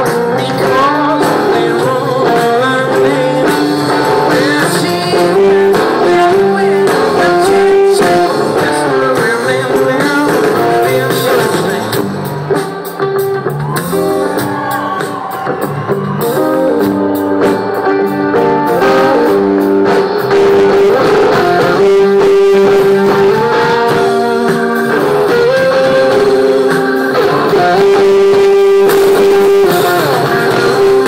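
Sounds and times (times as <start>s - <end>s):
drums: 0.0s - 31.0s
electric guitar lead: 0.0s - 31.0s.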